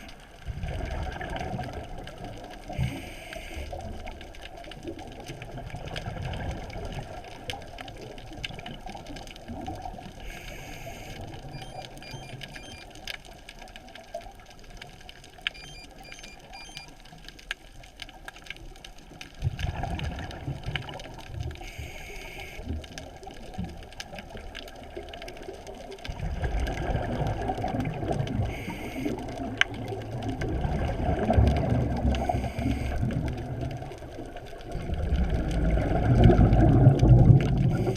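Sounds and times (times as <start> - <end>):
faint underwater clicks: 0.0 - 37.9
low watery rumble: 0.0 - 37.9.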